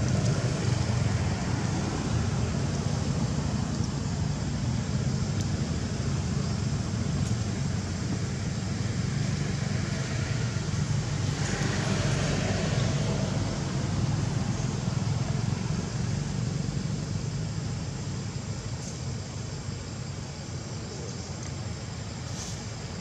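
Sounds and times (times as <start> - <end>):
low rumble of vehicle noise: 0.0 - 23.0.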